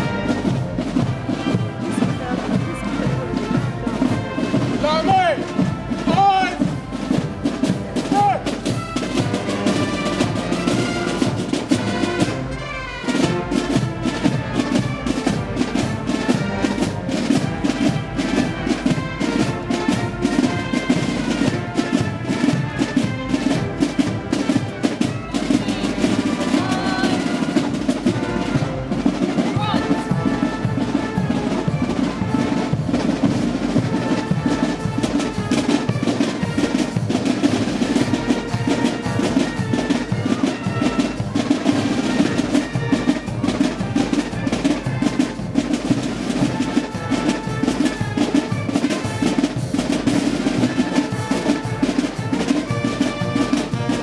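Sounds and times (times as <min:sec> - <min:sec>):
marching band playing: 0:00.0 - 0:54.0
snare drum strokes and rolls: 0:00.0 - 0:54.0.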